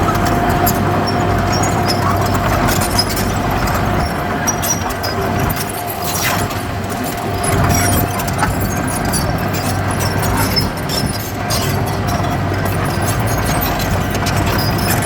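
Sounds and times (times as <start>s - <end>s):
diesel earthmover engine running: 0.0s - 15.0s.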